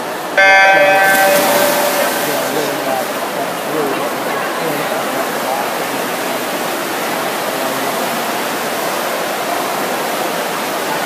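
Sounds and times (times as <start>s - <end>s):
echoing spectators' voices: 0.0s - 11.0s
swimmers splashing: 0.4s - 11.0s.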